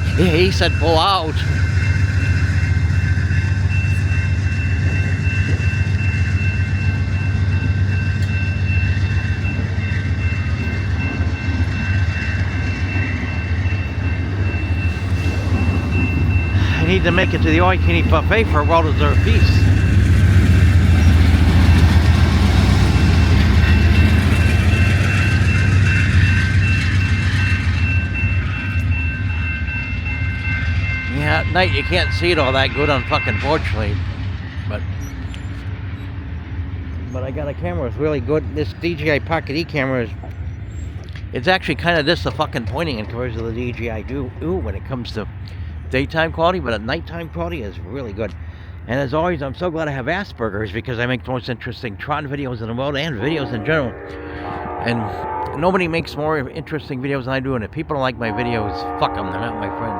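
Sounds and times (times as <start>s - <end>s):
diesel train engine drone: 0.0s - 59.9s.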